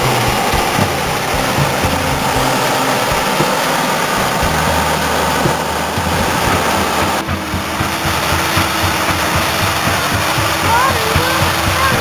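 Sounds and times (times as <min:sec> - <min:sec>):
combine harvester running: 0:00.0 - 0:12.0
tractor engine: 0:00.0 - 0:12.0.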